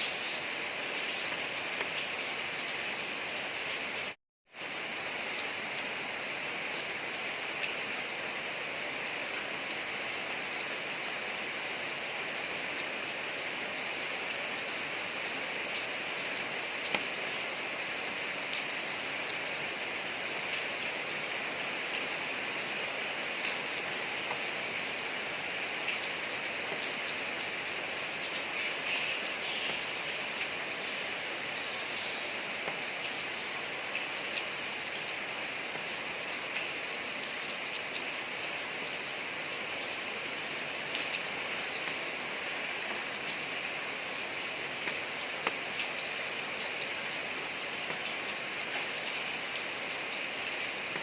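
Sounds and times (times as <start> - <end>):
rain falling on a street: 0.0 - 51.0.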